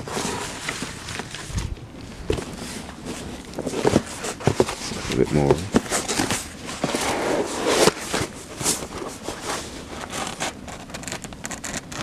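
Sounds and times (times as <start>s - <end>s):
cardboard burning with crackles: 0.0s - 12.0s.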